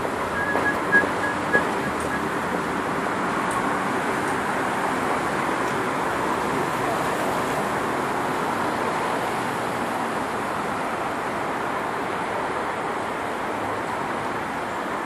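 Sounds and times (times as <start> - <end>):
traffic hiss on wet road: 0.0 - 15.0.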